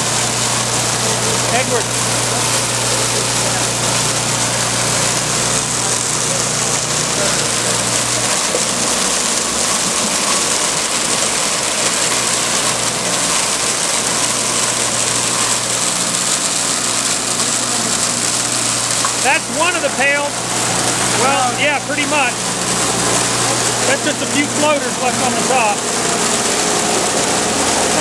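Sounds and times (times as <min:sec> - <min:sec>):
shredder running: 0:00.0 - 0:28.0.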